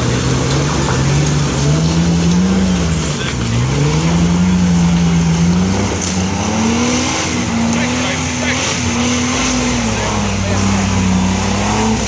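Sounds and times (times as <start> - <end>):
engine revving hard under load: 0.0 - 12.0.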